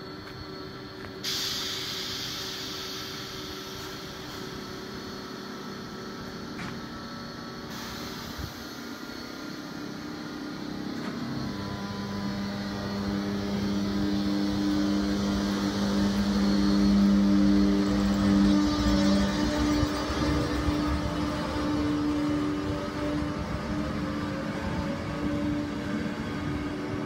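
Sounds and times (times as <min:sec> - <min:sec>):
electric locomotive humming: 0:00.0 - 0:27.0.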